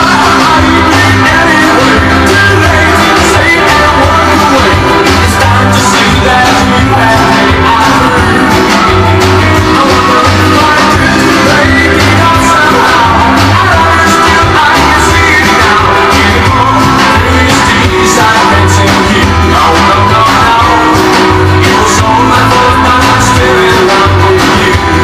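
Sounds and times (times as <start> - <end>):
person singing: 0.0 - 25.0
rock and roll record playing: 0.0 - 25.0
walking bass line: 0.0 - 25.0.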